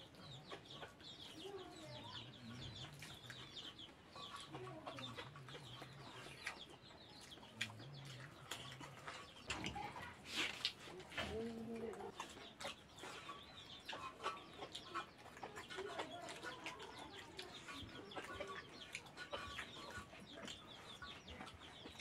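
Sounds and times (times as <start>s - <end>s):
hens clucking: 0.0s - 22.0s
soft chewing: 0.0s - 22.0s.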